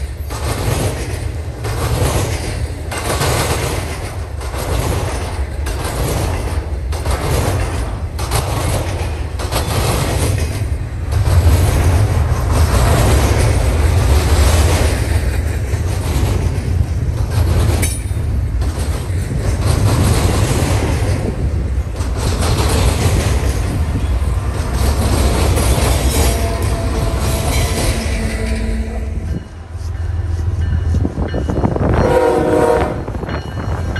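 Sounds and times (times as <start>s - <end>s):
diesel locomotive: 0.0s - 33.9s
train wheels rumbling and clacking: 0.0s - 33.9s.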